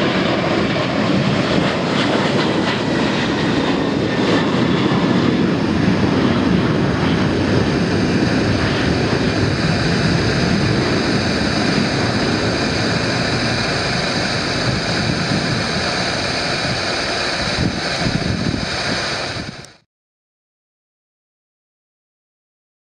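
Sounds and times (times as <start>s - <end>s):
jet engines rumbling: 0.0s - 19.8s.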